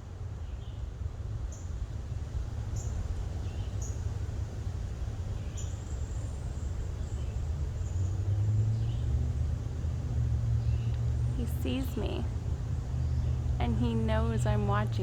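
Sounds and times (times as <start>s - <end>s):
distant road traffic rumble: 0.0s - 15.0s
engine hum: 1.0s - 15.0s.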